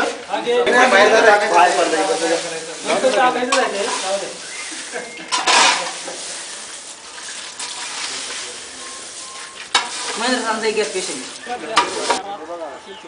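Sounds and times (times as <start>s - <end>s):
voices: 0.0s - 13.0s
rustling of chopped fodder: 0.8s - 12.2s.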